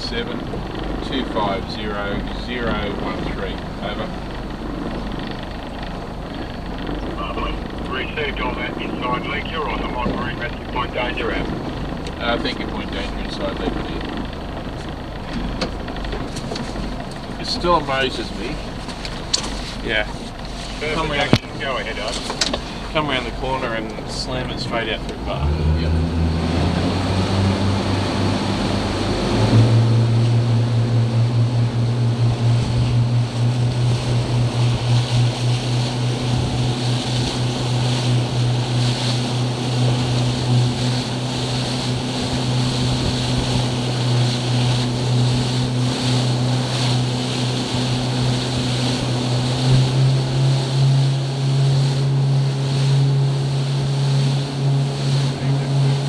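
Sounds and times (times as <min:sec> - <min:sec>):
outboard motor running hard: 0:00.0 - 0:56.0
water rushing along hull: 0:00.0 - 0:56.0.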